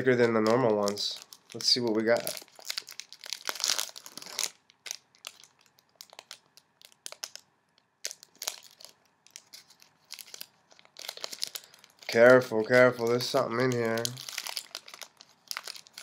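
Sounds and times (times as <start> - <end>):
wrapper tearing and crinkling: 0.0 - 16.0.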